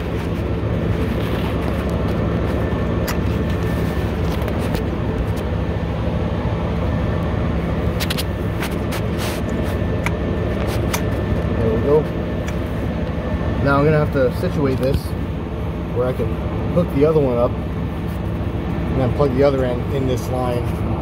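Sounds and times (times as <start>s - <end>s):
low mechanical drone: 0.0s - 21.0s.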